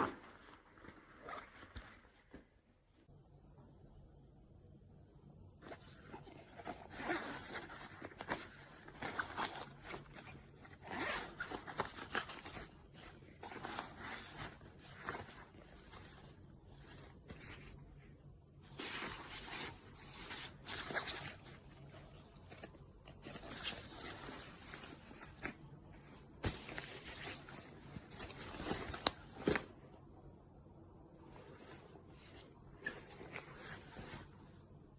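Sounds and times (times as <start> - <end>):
fabric rustling: 5.6 - 30.2, 31.2 - 34.9.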